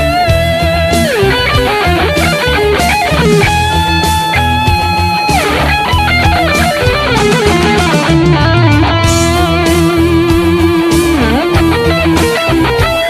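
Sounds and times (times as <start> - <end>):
electric guitar lead solo: 0.0 - 13.0
rock backing track: 0.0 - 13.0.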